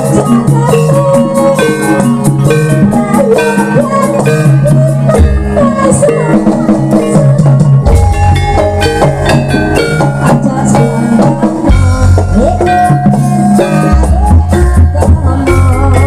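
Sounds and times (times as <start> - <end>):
drums and tuned percussion: 0.0 - 16.0.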